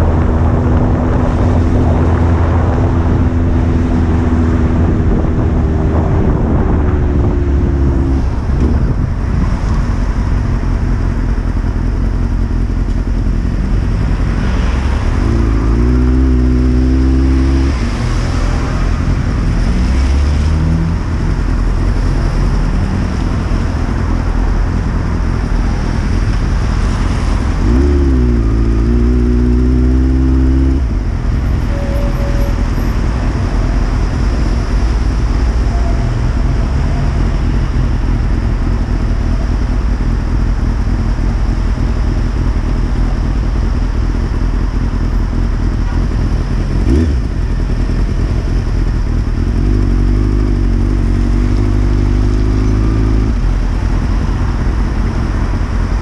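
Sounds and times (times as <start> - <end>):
motorcycle engine: 0.0 - 56.0
wind and road noise: 0.0 - 56.0.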